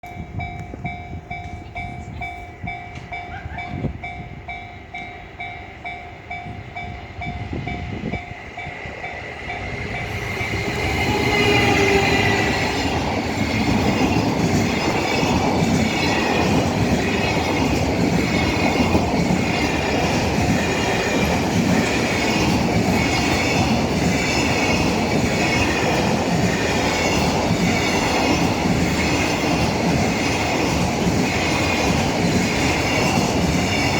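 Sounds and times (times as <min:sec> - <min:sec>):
freight train wheels clattering: 0:00.0 - 0:33.9
level-crossing warning bell: 0:00.0 - 0:33.9.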